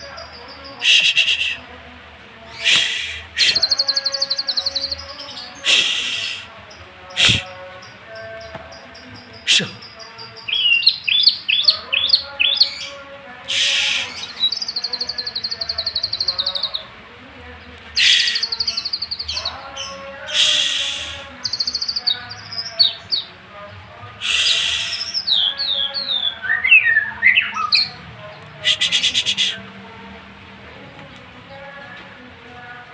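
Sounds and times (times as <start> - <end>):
songbird singing varied song: 0.0 - 1.7, 2.4 - 29.8.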